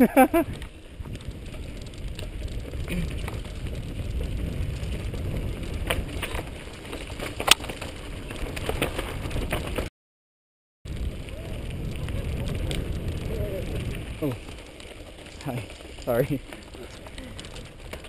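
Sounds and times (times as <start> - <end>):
bike tyres rumbling on dirt trail: 0.0 - 9.9, 10.9 - 18.0
gravel clicks and rattles: 0.0 - 9.9, 10.9 - 18.0.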